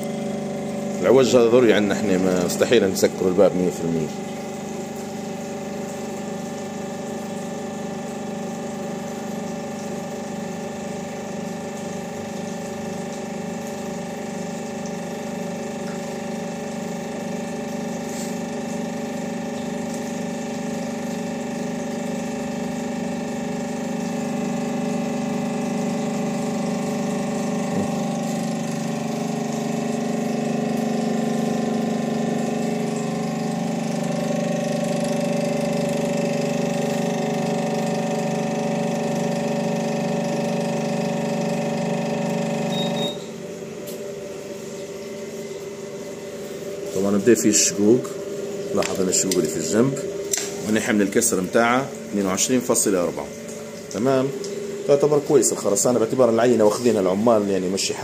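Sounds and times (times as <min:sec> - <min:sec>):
hydraulic pump humming: 0:00.0 - 0:58.0.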